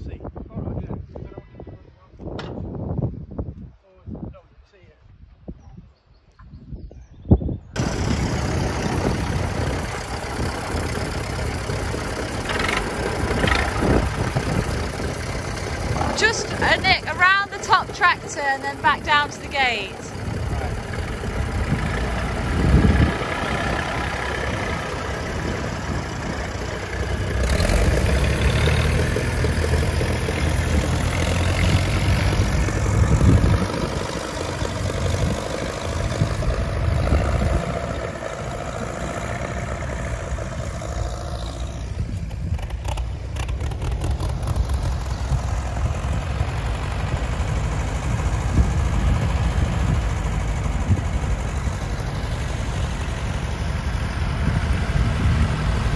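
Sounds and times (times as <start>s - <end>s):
tractor engines passing: 7.8s - 55.9s.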